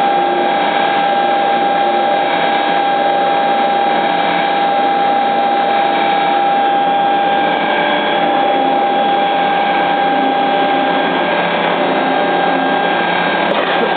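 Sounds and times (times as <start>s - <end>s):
milling machine whining: 0.0s - 13.9s.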